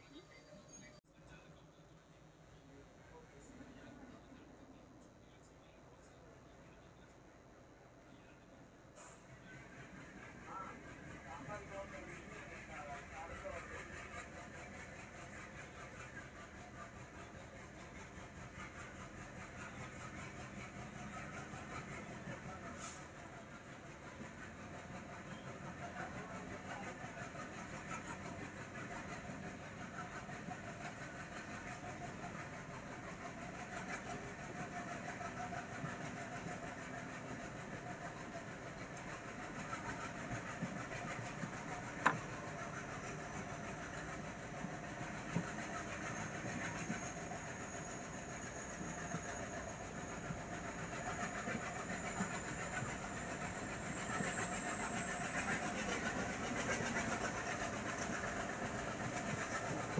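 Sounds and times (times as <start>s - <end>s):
train coach rumbling: 0.0s - 59.9s.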